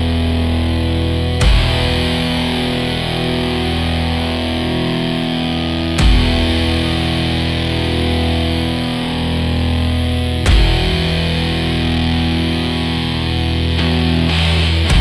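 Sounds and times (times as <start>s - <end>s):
dark country music: 0.0s - 15.0s.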